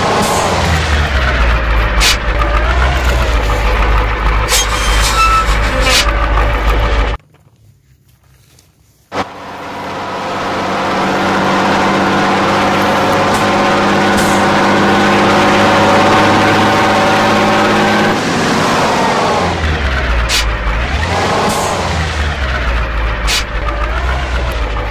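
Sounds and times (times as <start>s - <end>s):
truck engine running: 0.0s - 7.2s, 9.1s - 24.9s.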